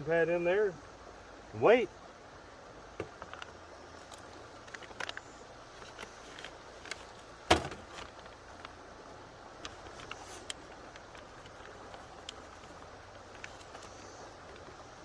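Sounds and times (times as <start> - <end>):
creek running: 0.0 - 15.0.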